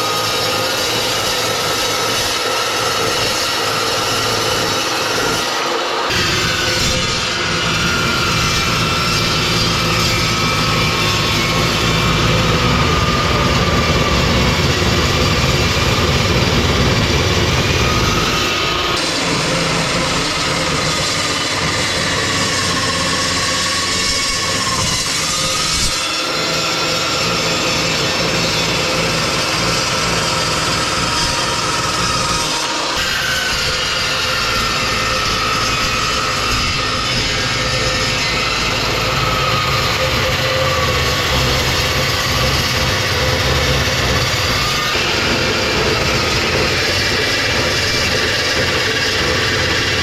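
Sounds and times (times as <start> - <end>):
chop saw cutting steel: 0.0 - 50.0.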